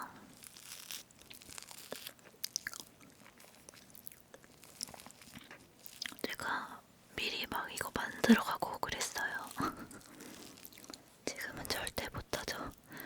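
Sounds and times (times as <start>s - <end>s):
close-up chewing: 0.3s - 6.5s, 7.7s - 13.0s.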